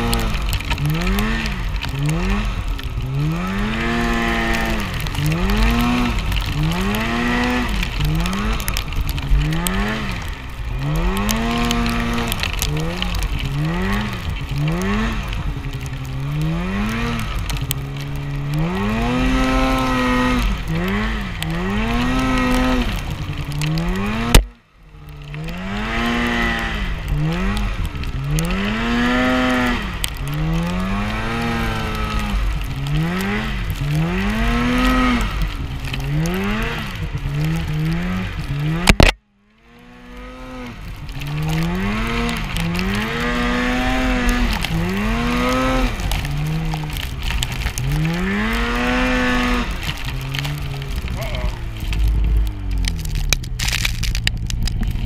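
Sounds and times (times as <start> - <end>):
snowmobile engine revving: 0.0 - 24.5, 25.2 - 39.0, 39.6 - 52.9.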